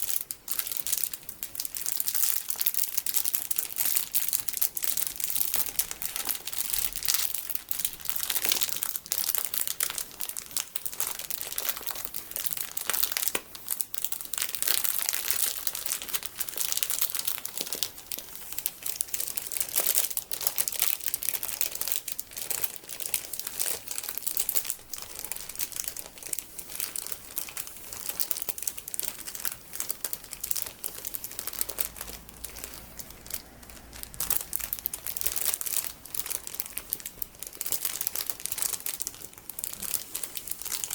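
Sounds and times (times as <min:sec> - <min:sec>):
plastic packaging crinkling: 0:00.0 - 0:40.9.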